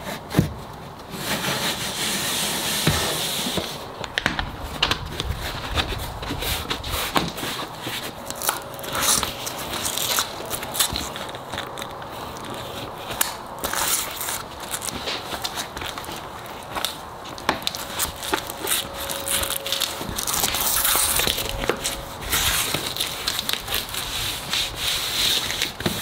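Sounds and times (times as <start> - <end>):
fabric rustling: 1.1 - 26.0
velcro crackling: 1.1 - 26.0.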